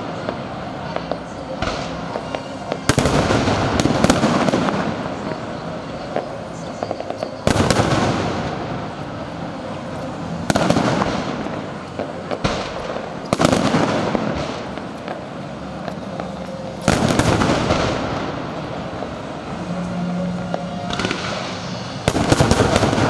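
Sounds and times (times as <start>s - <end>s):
small fireworks pops: 0.0s - 18.9s, 20.3s - 23.0s
fireworks bursting with loud bangs: 0.0s - 23.0s.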